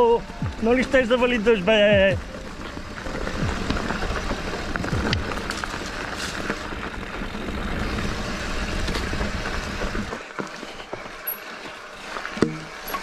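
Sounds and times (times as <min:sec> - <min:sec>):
tyres crunching over loose ground: 0:00.0 - 0:13.0.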